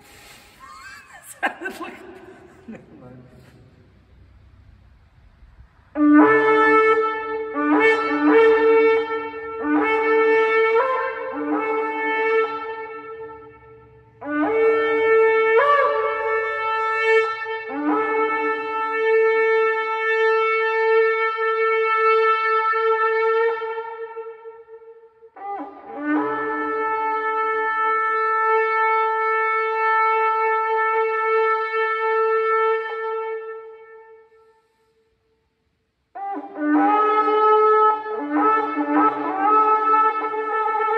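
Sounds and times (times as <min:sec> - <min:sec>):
shofar blasts: 0:05.9 - 0:35.0, 0:36.1 - 0:40.9.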